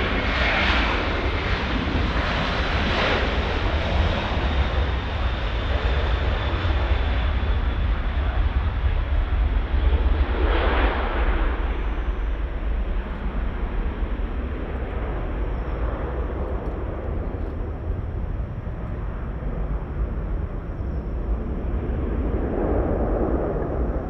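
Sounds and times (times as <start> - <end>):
jet engine rushing and rumble: 0.0 - 24.0.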